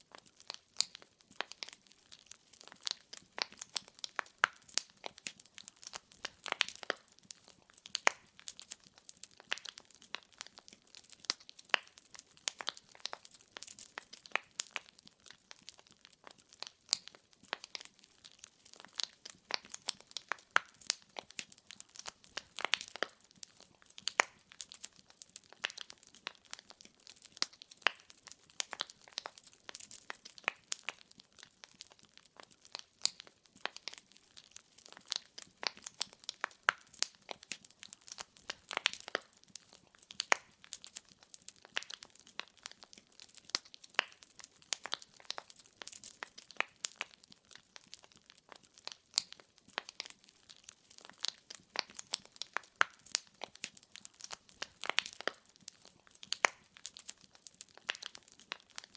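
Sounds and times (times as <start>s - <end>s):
firewood crackling and popping: 0.0s - 58.9s.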